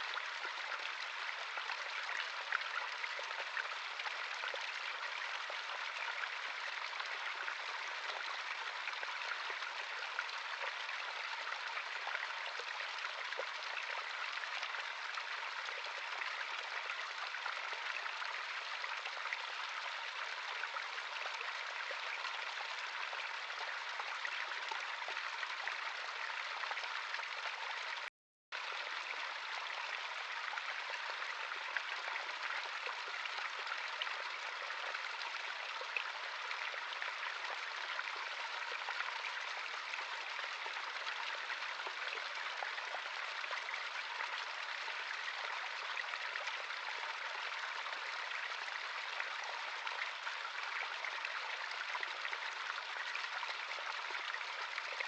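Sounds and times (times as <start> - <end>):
stream water rushing and splashing: 0.0 - 55.0.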